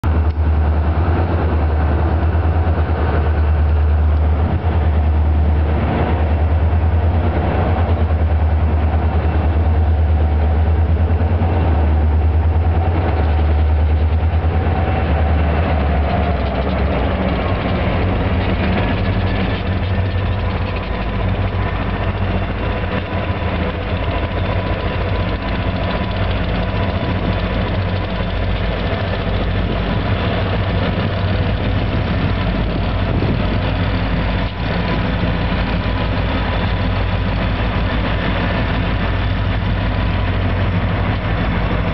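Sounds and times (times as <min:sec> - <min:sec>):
locomotive engines droning: 0:00.0 - 0:41.9.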